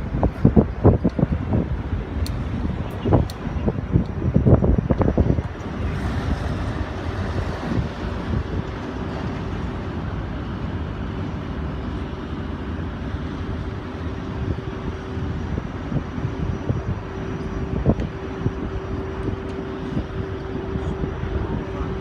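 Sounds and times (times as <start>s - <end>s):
engine running: 0.0s - 22.0s
steady hum: 0.0s - 22.0s
wind on microphone: 0.0s - 22.0s.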